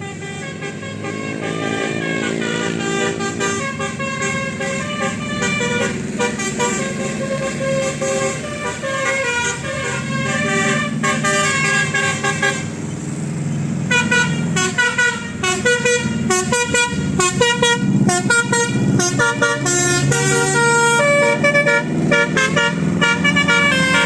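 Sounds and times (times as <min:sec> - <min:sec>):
bus horn playing melody: 0:00.0 - 0:12.9, 0:13.8 - 0:24.0
engine hum: 0:00.0 - 0:24.0.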